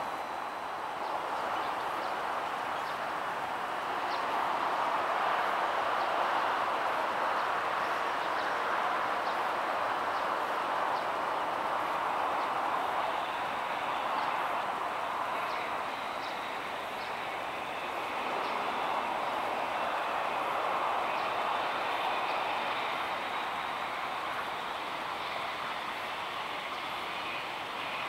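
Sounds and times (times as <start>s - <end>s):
rushing outdoor background noise: 0.0s - 28.0s.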